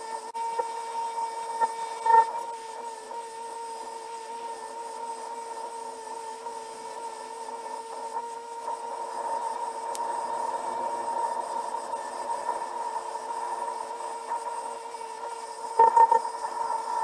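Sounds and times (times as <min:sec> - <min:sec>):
bench grinder whine: 0:00.0 - 0:17.0.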